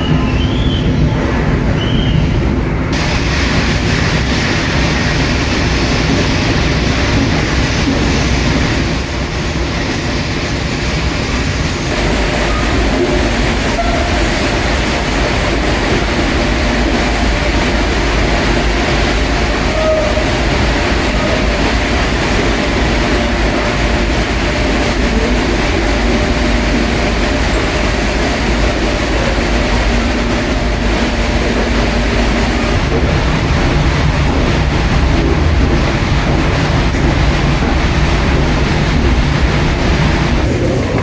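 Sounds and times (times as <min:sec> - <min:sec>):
airplane cabin rumble: 0:00.0 - 0:41.0
faint steady hums: 0:02.2 - 0:41.0.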